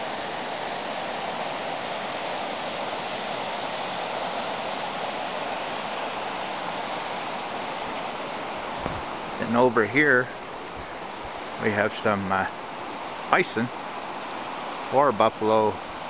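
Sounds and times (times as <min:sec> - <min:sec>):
fast-flowing river rushing: 0:00.0 - 0:16.0.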